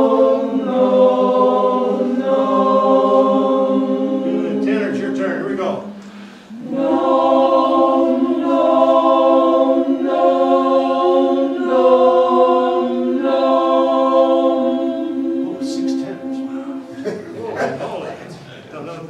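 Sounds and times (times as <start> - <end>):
chorus singing sustained chords: 0.0 - 18.4.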